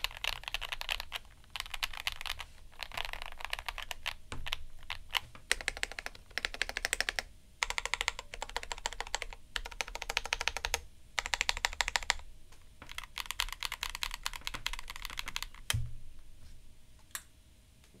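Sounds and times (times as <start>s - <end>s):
mechanical keyboard typing: 0.0s - 12.2s, 12.8s - 15.7s.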